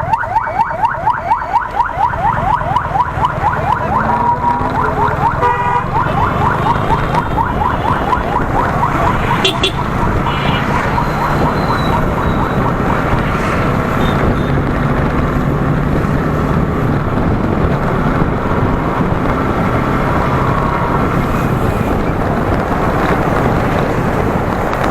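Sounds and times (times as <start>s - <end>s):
road and wind noise: 0.0s - 24.9s.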